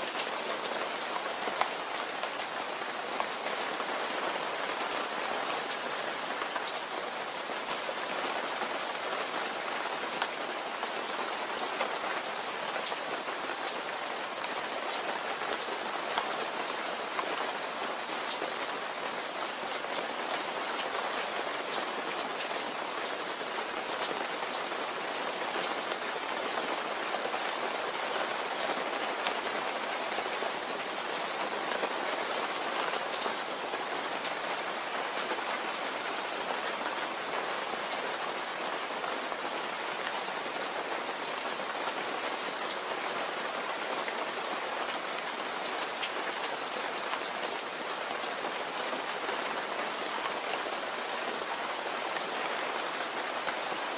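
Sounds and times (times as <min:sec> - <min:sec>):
raindrops ticking on a surface: 0:00.0 - 0:53.9
steady rain falling: 0:00.0 - 0:53.9.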